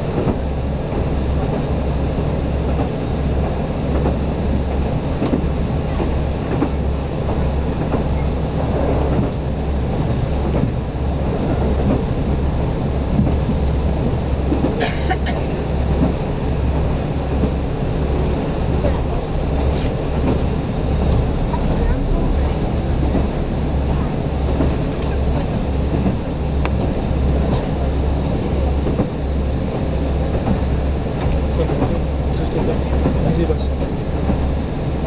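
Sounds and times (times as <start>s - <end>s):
diesel railcar rumbling: 0.0s - 35.0s.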